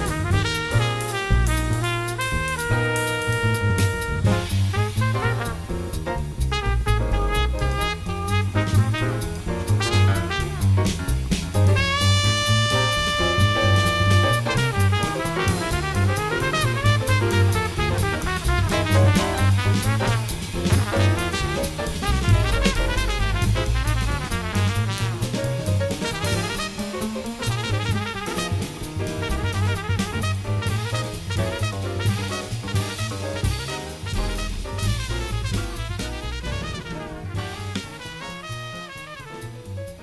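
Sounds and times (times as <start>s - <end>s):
horns playing: 0.0s - 10.9s, 11.8s - 39.8s
bass line: 0.0s - 40.0s
drum kit beat: 0.0s - 40.0s.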